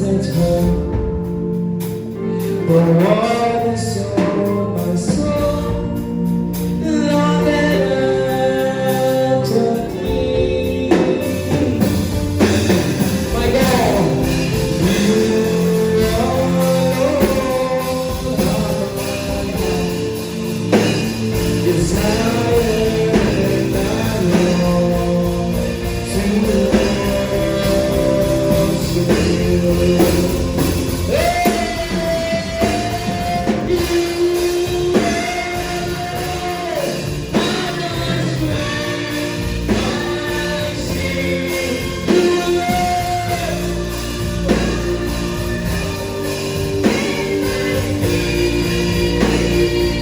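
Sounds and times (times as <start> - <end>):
slow gospel band music: 0.0 - 50.0.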